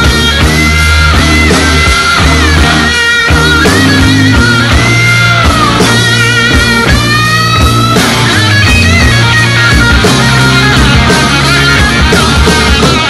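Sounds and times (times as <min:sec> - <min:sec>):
bass line: 0:00.0 - 0:13.0
electric guitar bending notes: 0:00.0 - 0:13.0.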